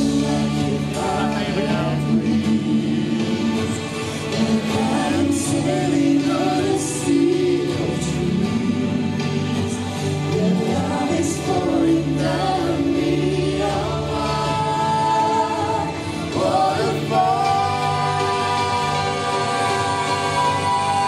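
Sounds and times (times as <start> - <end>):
choir-like singing: 0.0 - 21.0.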